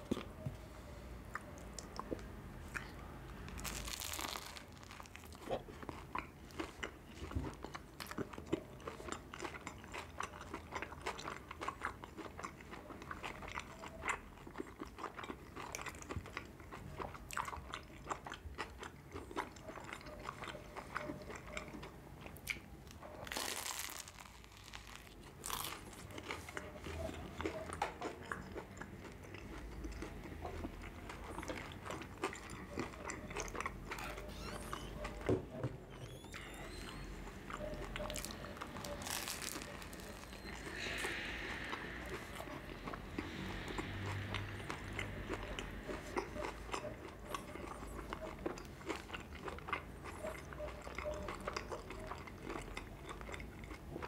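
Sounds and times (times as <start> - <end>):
chewing bread roll: 0.0 - 54.0.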